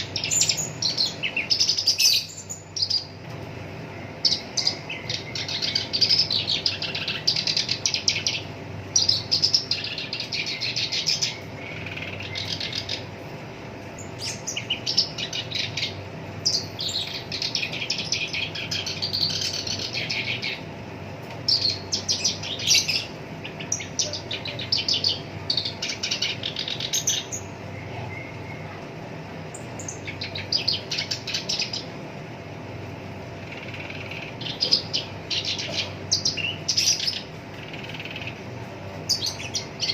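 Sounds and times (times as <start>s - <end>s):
faint steady hum: 0.0s - 39.9s
warbler singing: 0.0s - 39.9s.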